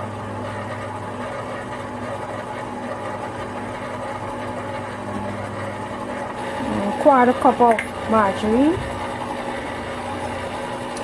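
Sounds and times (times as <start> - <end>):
electric mixer motor humming: 0.0 - 11.0.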